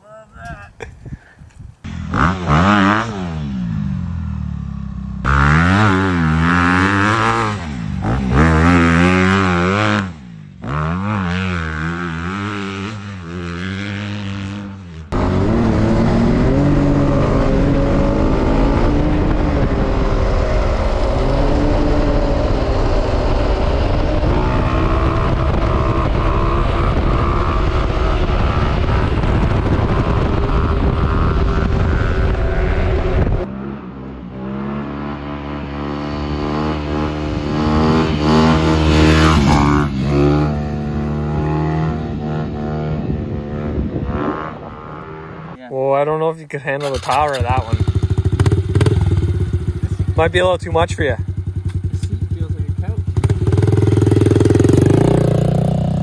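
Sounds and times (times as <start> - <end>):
dirt bike engine revving: 1.9 - 45.6, 46.8 - 56.0.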